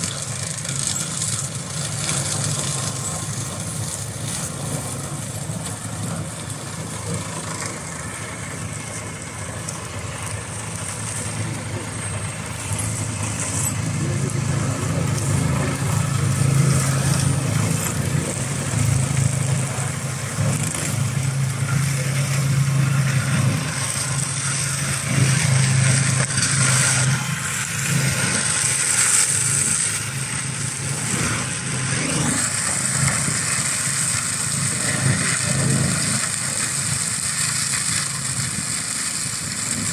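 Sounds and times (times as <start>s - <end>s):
mulcher shredding brush: 0.0s - 39.9s
tractor engine humming: 0.0s - 39.9s.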